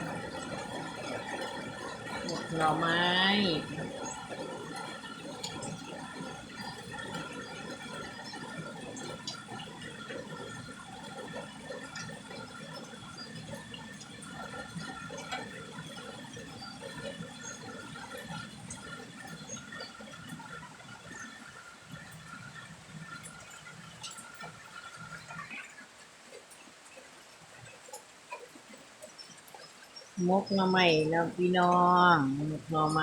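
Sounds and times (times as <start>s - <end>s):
water running and splashing: 0.0s - 33.0s.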